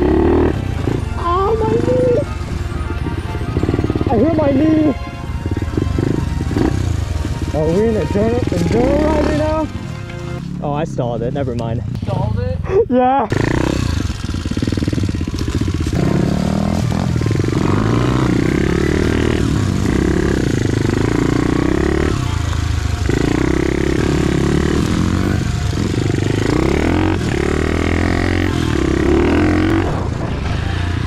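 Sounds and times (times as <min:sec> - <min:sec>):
pit bike engine revving: 0:00.0 - 0:02.4, 0:03.0 - 0:09.7, 0:13.3 - 0:31.0.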